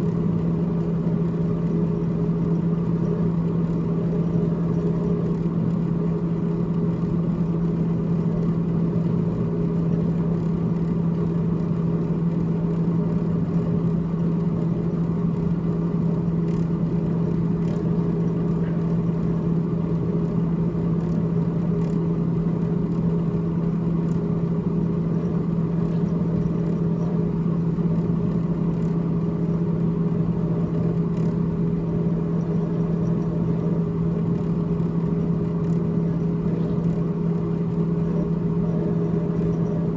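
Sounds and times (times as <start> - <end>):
refrigerator fan humming: 0.0 - 39.9.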